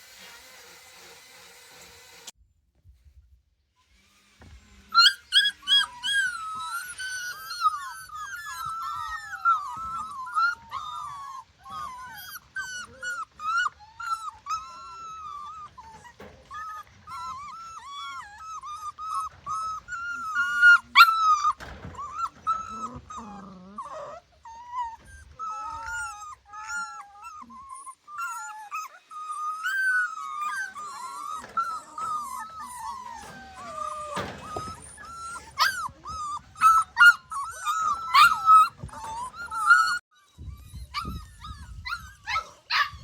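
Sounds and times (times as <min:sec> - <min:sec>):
puppies whimpering and squealing: 0:04.8 - 0:43.0
puppy yelps: 0:04.9 - 0:43.0.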